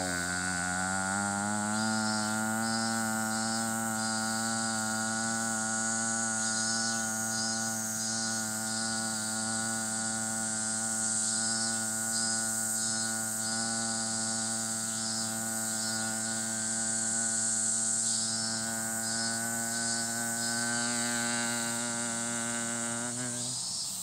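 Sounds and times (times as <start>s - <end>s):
insects shrilling: 0.0s - 24.0s
steady low hum: 0.0s - 24.0s.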